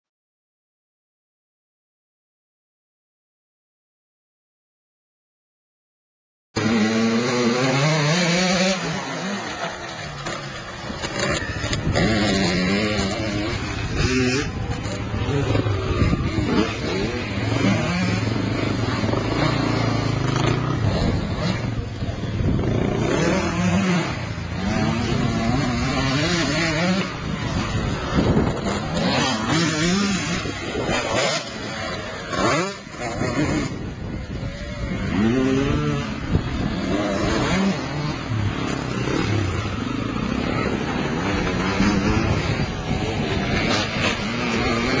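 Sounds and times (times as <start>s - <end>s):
dirt bike engines revving: 6.6s - 45.0s.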